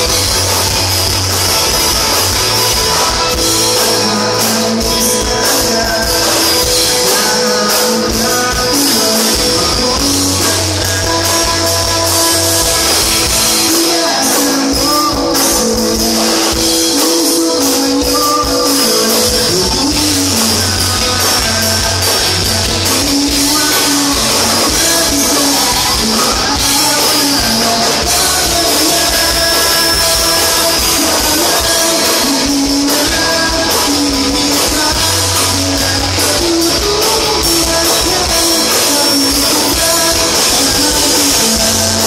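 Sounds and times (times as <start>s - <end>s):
live band playing: 0.0s - 42.0s
man singing: 0.0s - 42.0s.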